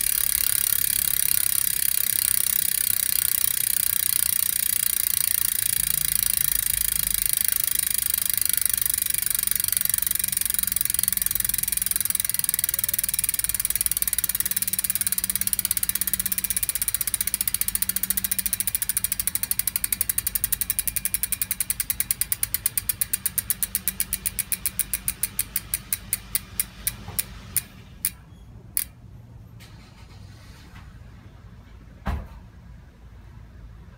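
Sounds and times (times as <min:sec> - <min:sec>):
bicycle freehub clicking: 0:00.0 - 0:29.0.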